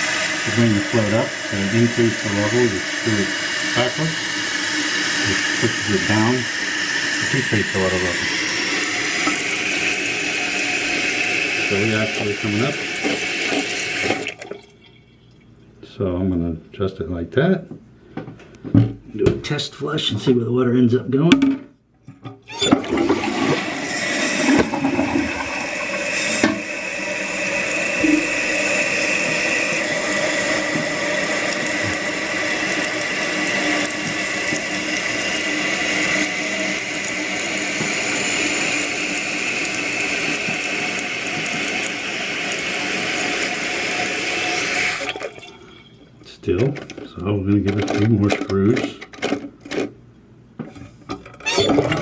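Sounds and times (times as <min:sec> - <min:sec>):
toilet flushing: 0:00.0 - 0:15.2, 0:22.5 - 0:48.2, 0:51.2 - 0:52.0
toilet tank refilling: 0:00.0 - 0:15.5, 0:22.2 - 0:48.5, 0:51.1 - 0:52.0.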